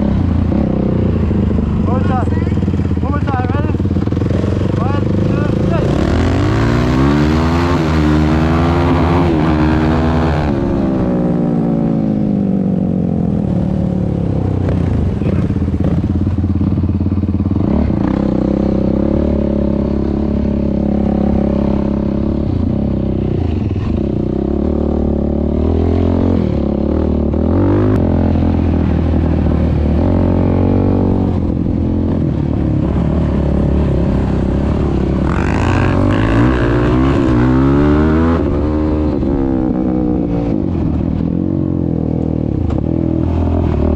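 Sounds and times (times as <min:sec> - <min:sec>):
quad engine revving: 0:00.0 - 0:12.5, 0:14.4 - 0:41.0.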